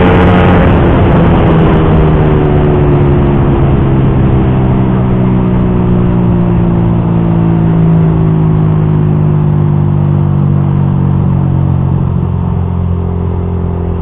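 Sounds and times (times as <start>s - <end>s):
motorcycle engine at speed: 0.0s - 14.0s.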